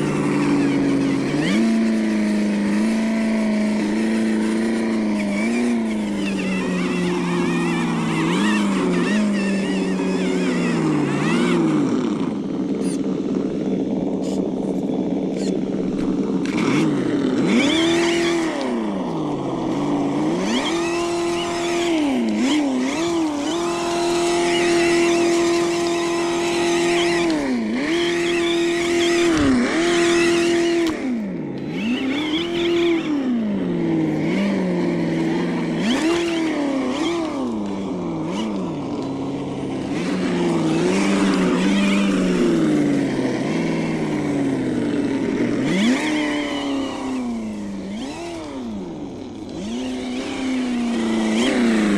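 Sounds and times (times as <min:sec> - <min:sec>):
simulated engine revving: 0:00.0 - 0:51.9.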